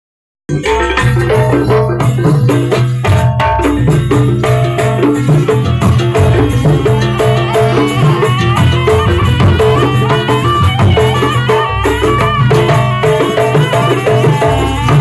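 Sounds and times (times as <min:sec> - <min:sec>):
fast drums: 0:00.5 - 0:15.0
high wavering melody: 0:00.5 - 0:15.0
metallophone melody: 0:00.5 - 0:15.0.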